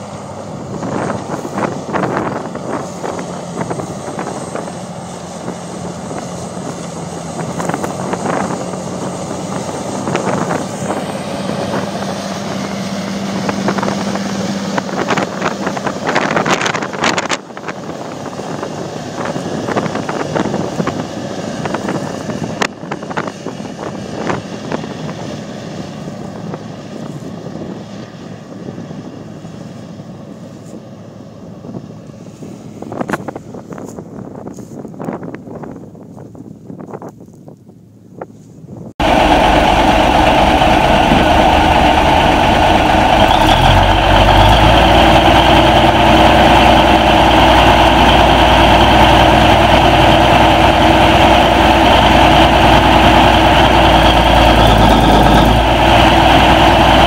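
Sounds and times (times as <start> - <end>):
tractor diesel engine under load: 0.0 - 35.6, 38.9 - 57.0
wind buffeting microphone: 0.0 - 57.0.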